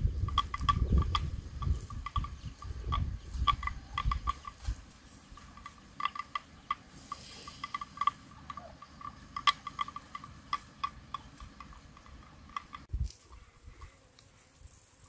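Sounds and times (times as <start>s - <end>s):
cow grazing clicks and clonks: 0.0s - 15.0s.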